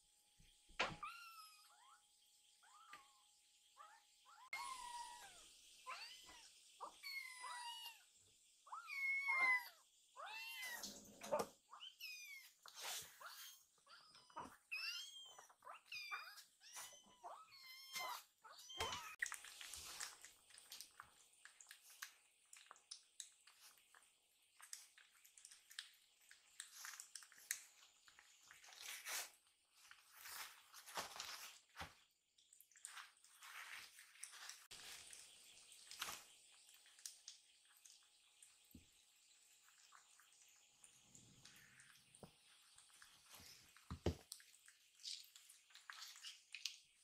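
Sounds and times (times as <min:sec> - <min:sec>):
kittens eating: 0:08.6 - 0:47.0.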